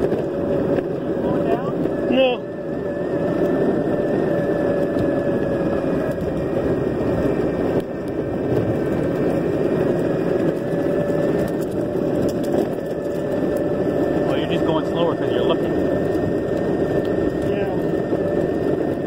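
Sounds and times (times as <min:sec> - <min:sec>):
electric motor whine: 0:00.0 - 0:19.0
wheels rolling on asphalt: 0:00.0 - 0:19.0.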